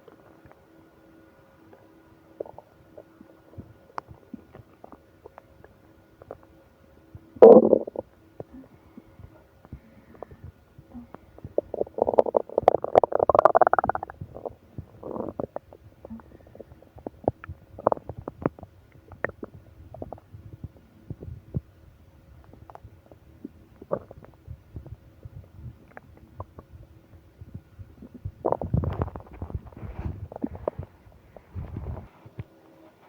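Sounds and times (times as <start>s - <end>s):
stomach growling: 1.7s - 6.6s, 7.2s - 32.4s.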